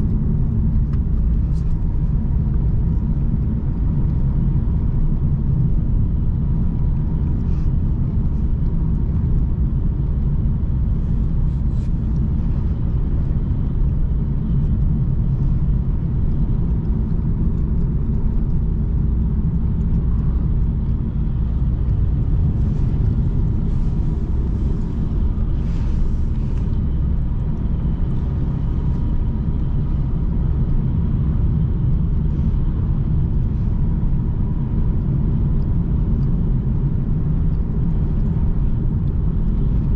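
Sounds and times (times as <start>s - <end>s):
car engine and tyre rumble: 0.0s - 39.9s
faint steady whine: 0.0s - 39.9s.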